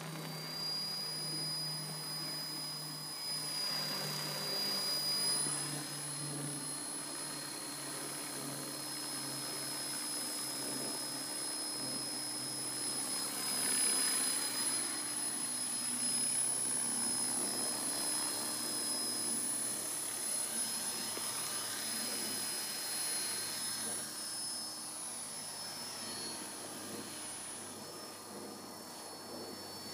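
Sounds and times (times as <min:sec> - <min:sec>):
rc helicopter rotor whining: 0:00.0 - 0:29.9.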